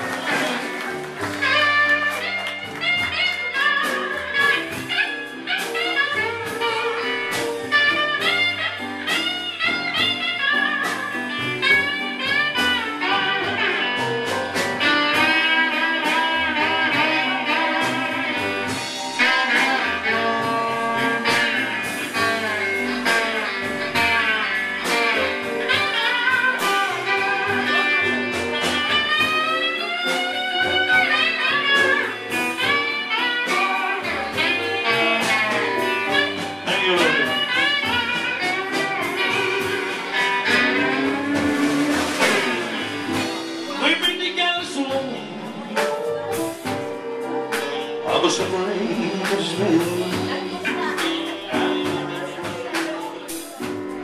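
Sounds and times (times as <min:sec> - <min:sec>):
guitar with bent notes: 0:00.0 - 0:54.0
walking double bass: 0:00.0 - 0:54.0.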